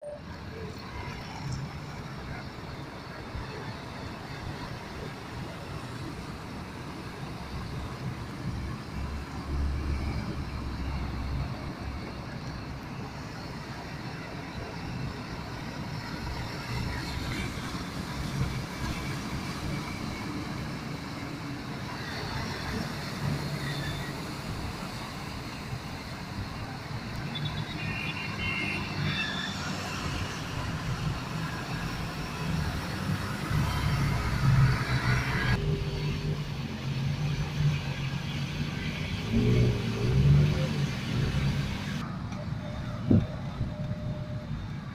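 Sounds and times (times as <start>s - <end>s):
cars passing: 0.0s - 44.9s.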